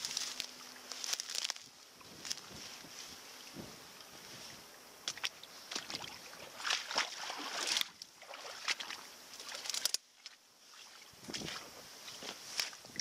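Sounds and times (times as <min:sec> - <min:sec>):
tall grass swishing and rustling: 0:00.0 - 0:13.0.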